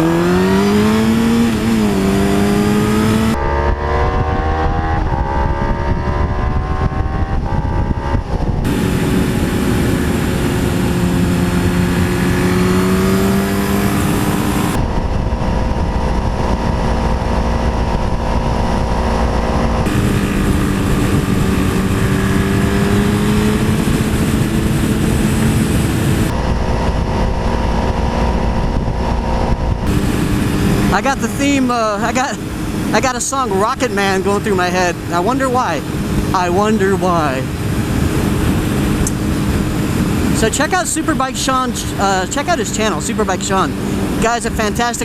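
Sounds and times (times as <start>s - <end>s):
motorcycle engine accelerating: 0.0s - 45.0s
wind rush: 0.0s - 45.0s.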